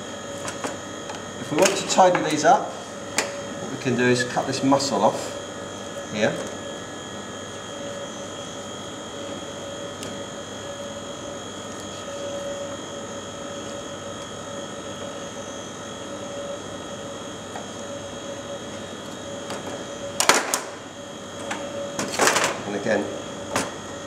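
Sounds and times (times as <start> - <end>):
ventilation drone with whining tones: 0.0 - 24.0.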